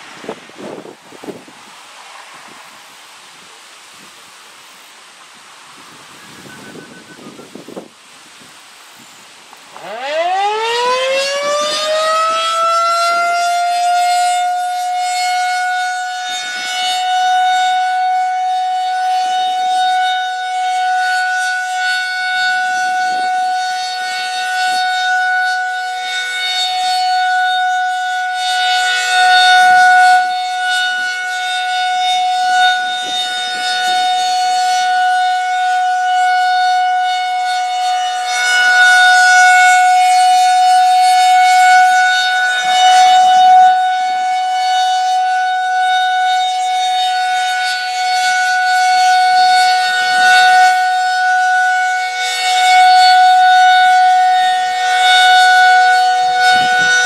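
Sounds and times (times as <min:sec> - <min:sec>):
rotating tornado siren wailing: 0:00.0 - 0:57.0.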